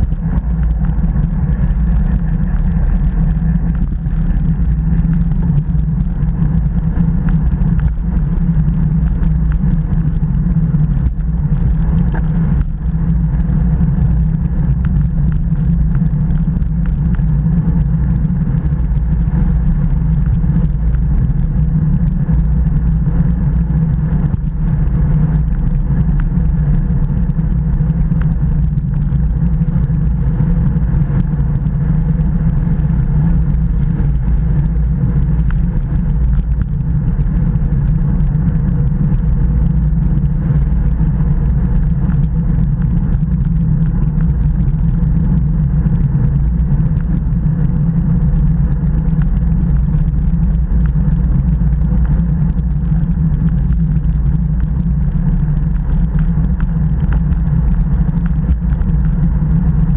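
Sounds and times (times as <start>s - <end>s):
road and tyre noise: 0.0s - 59.9s
wind buffeting microphone: 0.0s - 59.9s.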